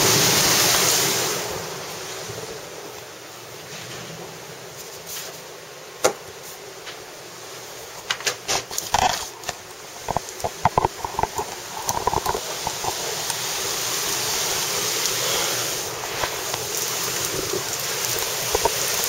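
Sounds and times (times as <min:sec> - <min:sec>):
heavy wind-driven rain: 0:00.0 - 0:19.0.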